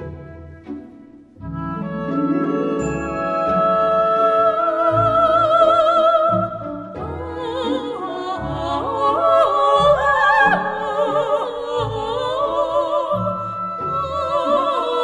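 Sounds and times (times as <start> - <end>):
instrumental accompaniment: 0.0 - 15.0
operatic singing with vibrato: 0.0 - 15.0.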